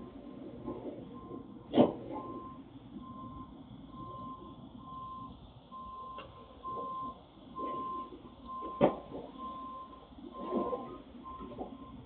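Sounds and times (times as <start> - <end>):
electronic alarm beeping: 1.1 - 12.0.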